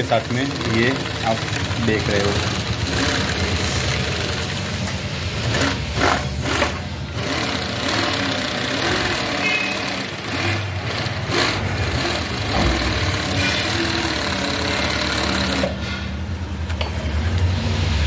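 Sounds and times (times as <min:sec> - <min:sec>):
industrial sewing machine running: 0:00.0 - 0:16.3.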